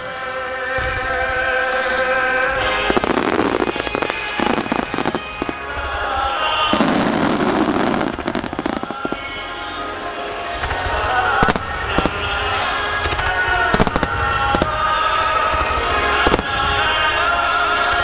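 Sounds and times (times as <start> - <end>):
fireworks bursting and crackling: 0.0 - 18.0
music: 0.0 - 18.0.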